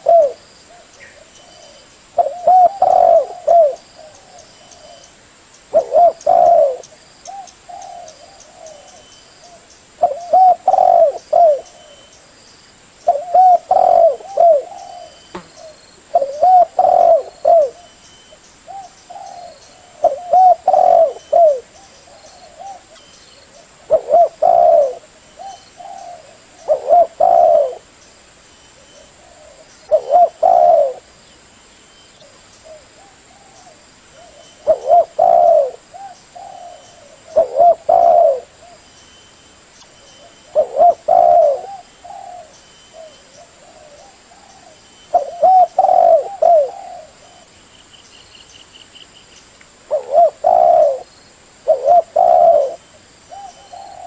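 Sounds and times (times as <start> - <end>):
dove cooing: 0.0 - 5.1, 5.7 - 12.1, 13.1 - 18.0, 18.7 - 27.9, 28.8 - 31.2, 32.2 - 38.9, 40.0 - 47.6, 49.9 - 54.0.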